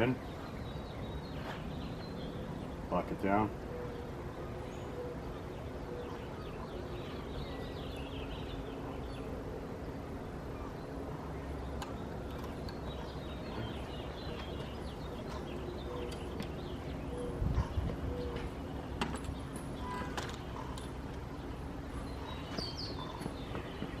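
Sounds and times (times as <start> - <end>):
faint birds chirping: 0.0 - 24.0.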